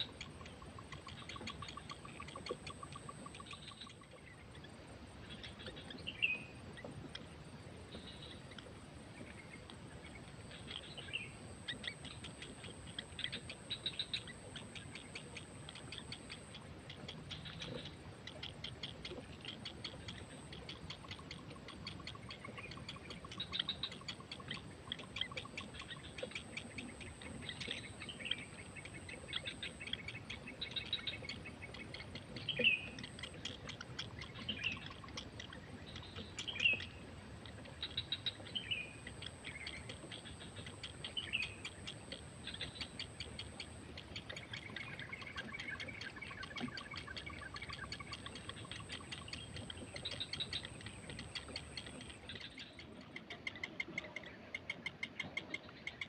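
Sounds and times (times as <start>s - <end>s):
birds chirping and calling: 0.0s - 7.3s, 7.9s - 56.0s.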